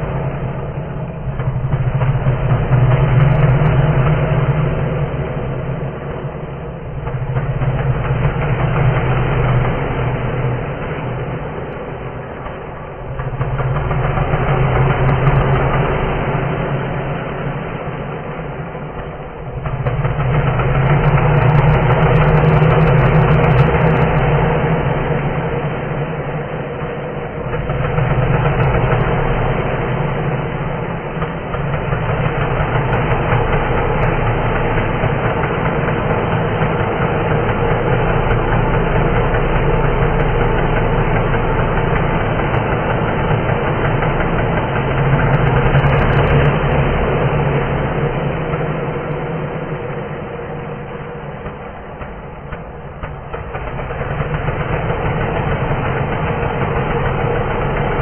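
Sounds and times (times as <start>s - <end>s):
low engine drone with reverb: 0.0s - 58.0s.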